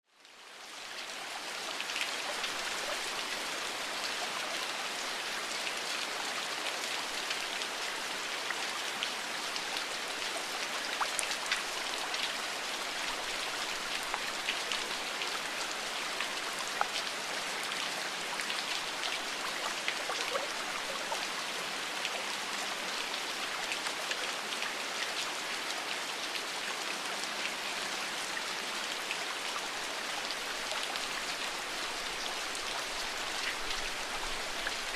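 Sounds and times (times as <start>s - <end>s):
rain drops pattering: 0.1s - 34.9s
flowing water rushing: 0.5s - 34.9s.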